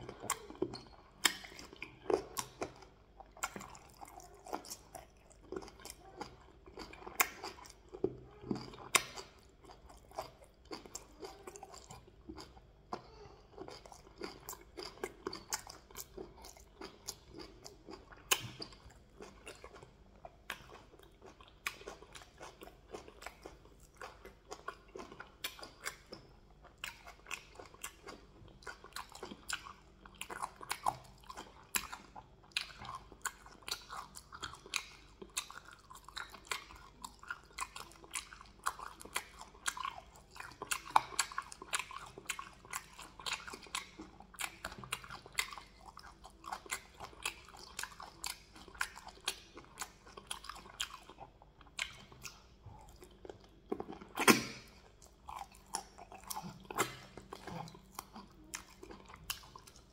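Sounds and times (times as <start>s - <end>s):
wet chewing and mouth smacks: 0.0s - 59.9s.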